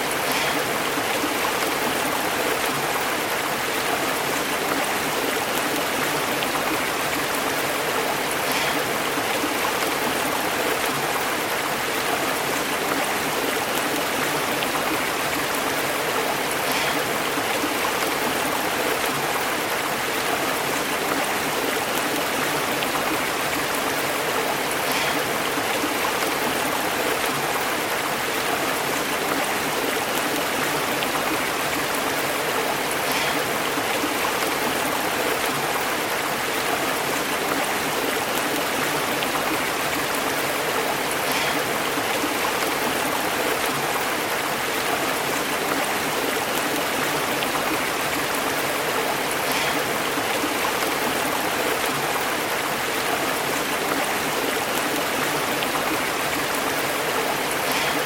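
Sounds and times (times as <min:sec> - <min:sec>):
stream bubbling over rocks: 0:00.0 - 0:58.0.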